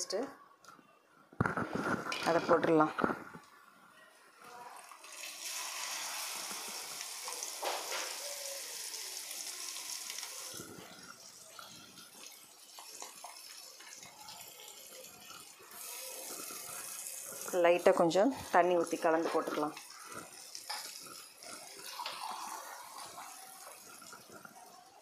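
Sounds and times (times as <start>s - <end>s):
onion paste sizzling in hot oil: 4.7s - 25.0s.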